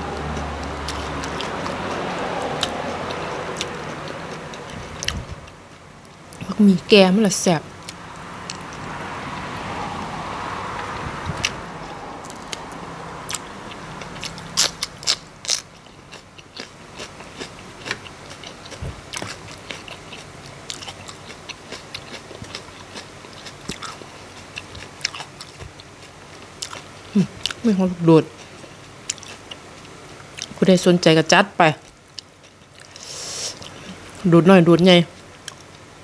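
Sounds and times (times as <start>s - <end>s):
person chewing food: 0.0s - 6.4s, 7.8s - 9.0s, 10.8s - 27.6s, 28.4s - 30.6s, 31.8s - 34.2s, 35.2s - 35.9s.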